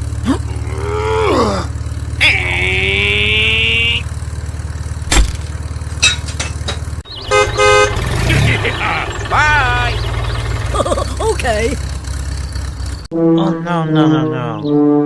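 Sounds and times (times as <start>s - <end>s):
vehicle engine idling: 0.0s - 13.1s.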